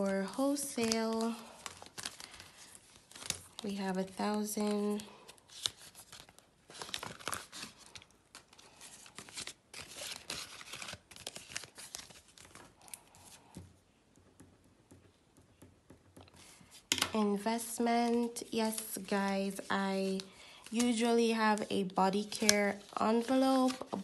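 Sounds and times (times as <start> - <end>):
banknotes and envelope rustling: 0.0 - 13.6, 16.2 - 24.0.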